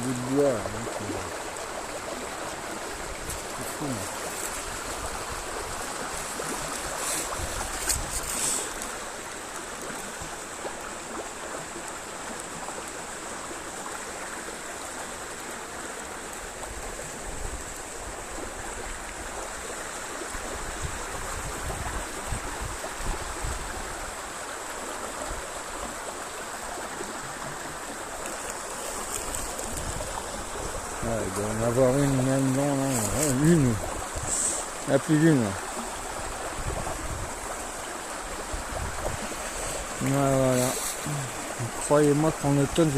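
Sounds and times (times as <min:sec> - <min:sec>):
river flowing over rocks: 0:00.0 - 0:42.9.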